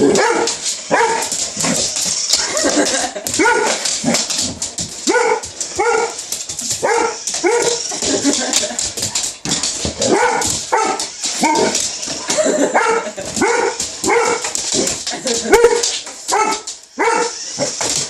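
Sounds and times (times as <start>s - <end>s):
dog barking and yipping: 0.0s - 4.3s, 5.0s - 8.4s, 10.0s - 18.0s.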